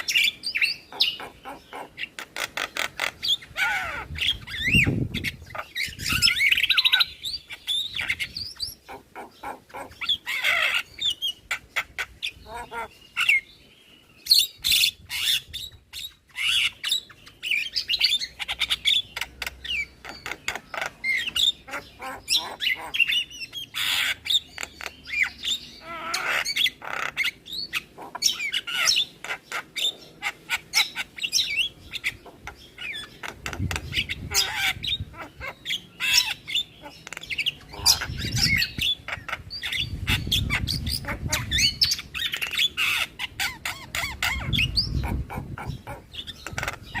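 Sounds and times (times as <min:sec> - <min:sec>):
bird chattering and squawking: 0:00.0 - 0:13.6, 0:14.2 - 0:47.0.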